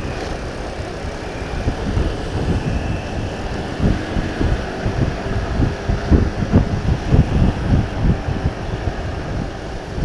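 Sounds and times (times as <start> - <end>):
motorcycle engine running: 0.0 - 10.0
wind buffeting microphone: 0.0 - 10.0.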